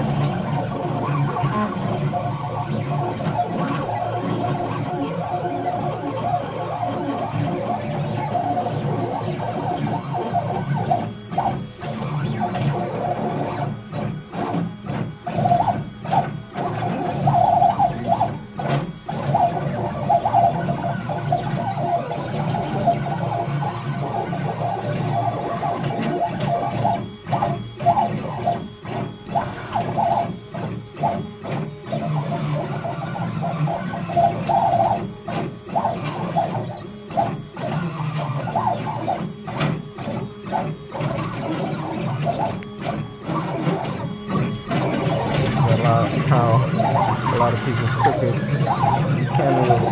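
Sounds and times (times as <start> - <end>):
stepper motors humming: 0.0 - 49.9.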